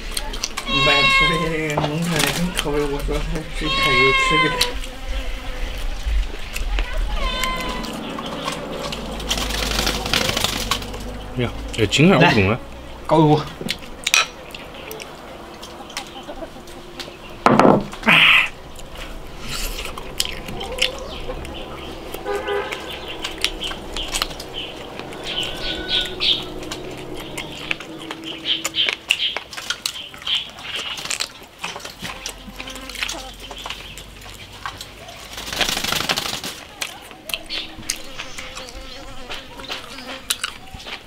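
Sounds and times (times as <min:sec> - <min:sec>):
man chewing meat: 0:00.0 - 0:03.3, 0:05.7 - 0:09.7, 0:12.6 - 0:17.4, 0:18.0 - 0:35.3, 0:36.6 - 0:41.0.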